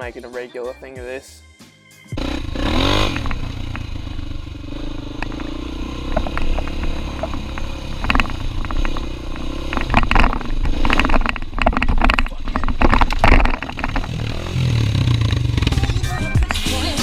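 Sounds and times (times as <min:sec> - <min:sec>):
dirt bike engine at low revs: 0:02.2 - 0:16.6
clattering and scraping: 0:02.8 - 0:16.6.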